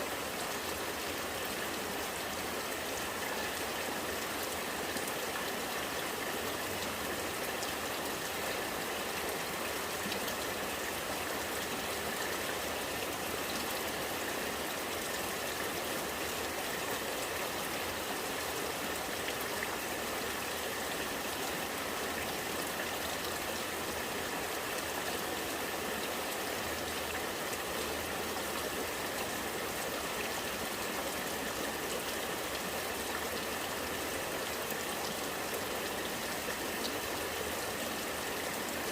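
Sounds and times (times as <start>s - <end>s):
rainwater running and gurgling: 0.0s - 38.9s.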